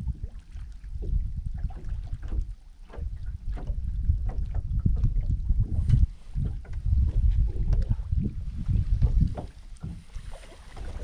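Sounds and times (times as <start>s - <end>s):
waves lapping against hull: 0.0s - 11.0s
wind gusting on microphone: 0.0s - 11.0s.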